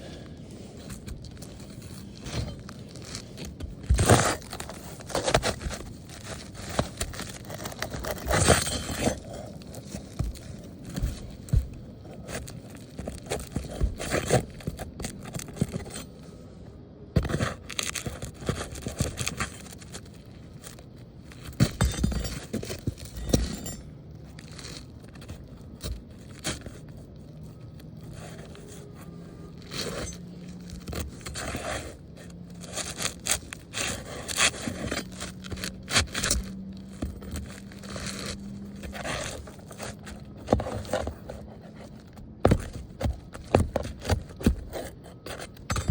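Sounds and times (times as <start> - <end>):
scraping of roof shingles: 0.0 - 16.3, 17.2 - 45.9.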